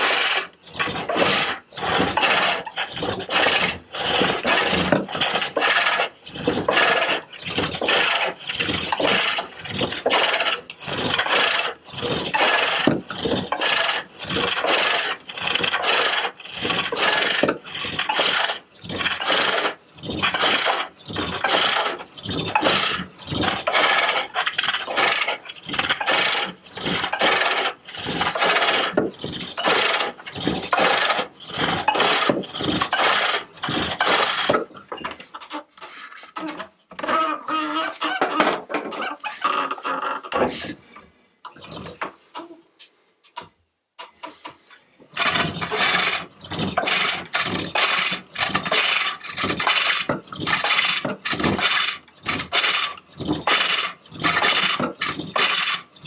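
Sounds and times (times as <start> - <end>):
hook tool shaving wood: 0.0 - 34.9, 45.1 - 56.0.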